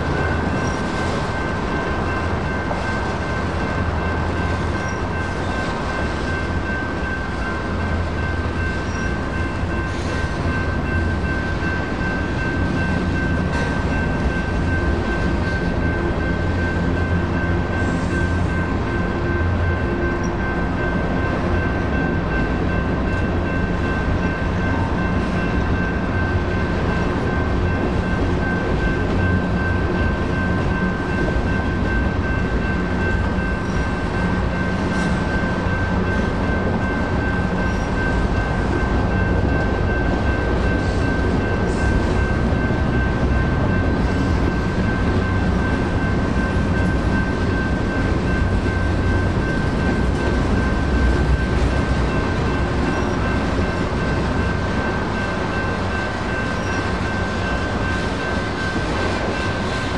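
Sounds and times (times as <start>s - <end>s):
crossing bell ringing: 0.0s - 59.9s
freight train wheels rumbling: 0.0s - 59.9s.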